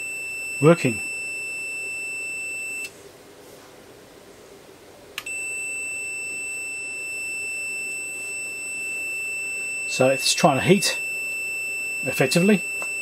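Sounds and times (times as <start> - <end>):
steady high multimeter beep: 0.0 - 2.9, 5.2 - 13.0.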